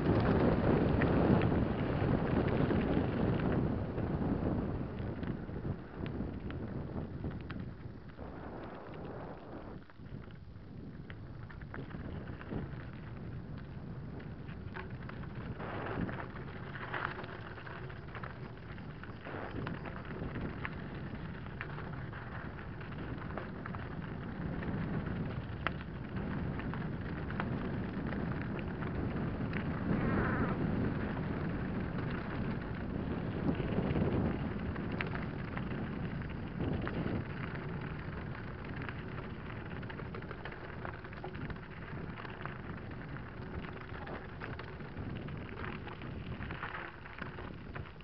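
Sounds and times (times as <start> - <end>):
bike rolling on gravel: 0.0 - 48.0.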